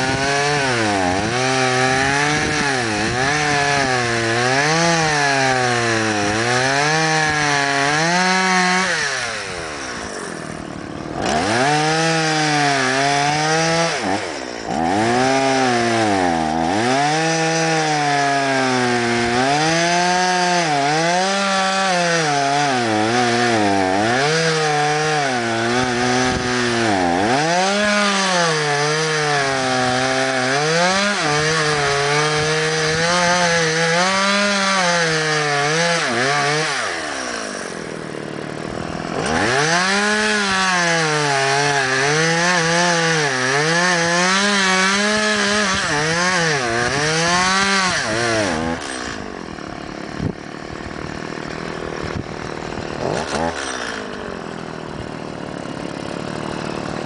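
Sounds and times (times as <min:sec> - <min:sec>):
chainsaw cutting logs: 0:00.0 - 0:57.0.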